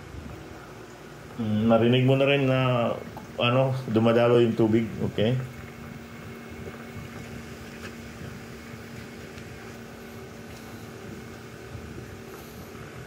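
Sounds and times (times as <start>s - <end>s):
water pump and fan humming: 0.0s - 13.0s.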